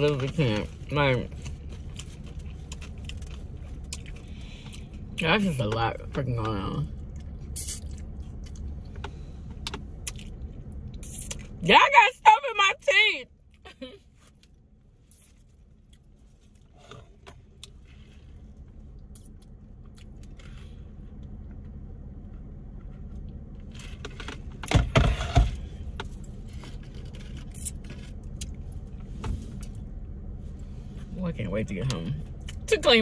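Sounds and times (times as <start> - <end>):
car cabin rumble: 0.0 - 33.0.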